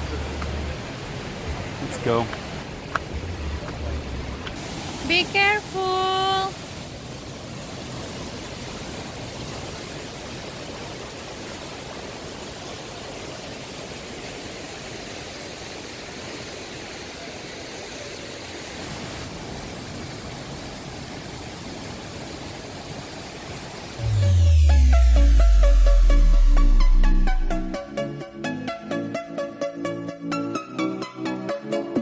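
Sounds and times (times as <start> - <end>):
waterfall rushing: 0.0 - 27.8.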